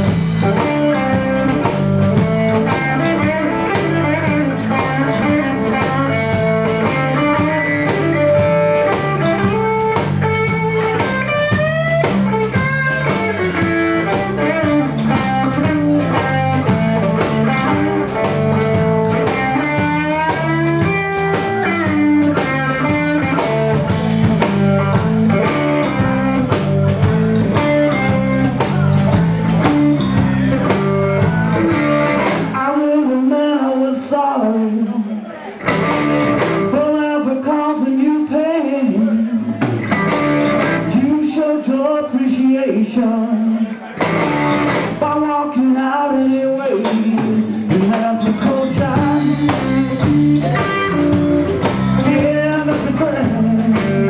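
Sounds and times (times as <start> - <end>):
electric guitar lead: 0.0 - 34.0, 34.6 - 54.0
blues-rock band playing: 0.0 - 54.0.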